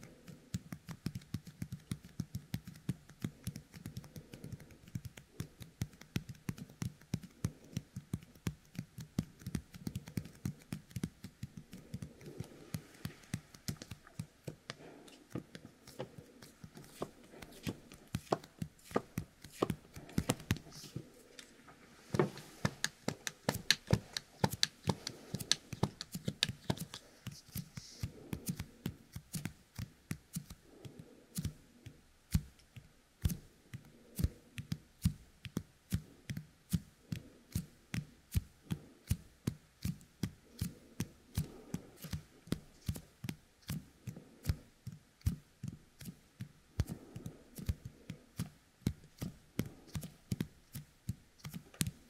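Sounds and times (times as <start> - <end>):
sticky fingers clicking and crackling: 0.0 - 21.6, 22.3 - 52.0.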